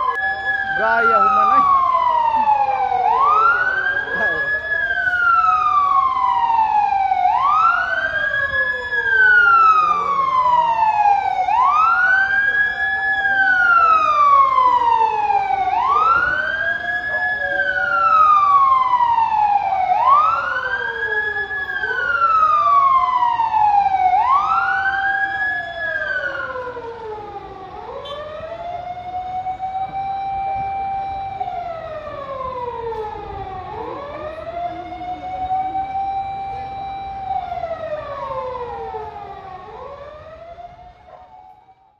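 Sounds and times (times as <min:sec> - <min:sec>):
high emergency siren wailing: 0:00.0 - 0:41.9
low emergency siren wailing: 0:00.0 - 0:41.9.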